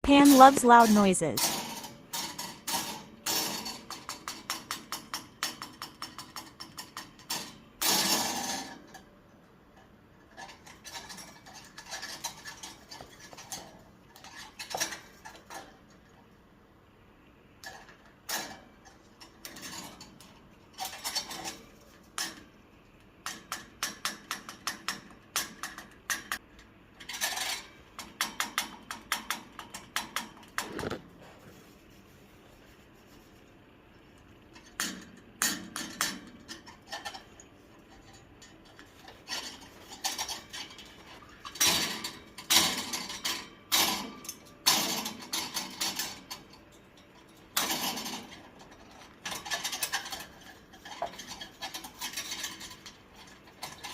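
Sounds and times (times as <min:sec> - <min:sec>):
parrot rattling metal: 0:00.2 - 0:09.1, 0:09.8 - 0:16.2, 0:17.6 - 0:22.5, 0:23.2 - 0:30.8, 0:34.5 - 0:53.9.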